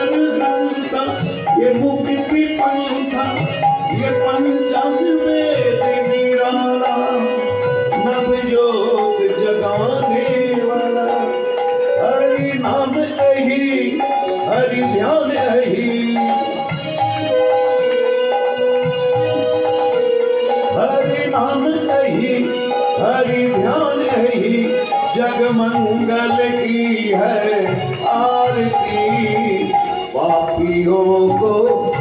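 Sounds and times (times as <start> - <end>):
rattling and ringing percussion: 0.0 - 32.0.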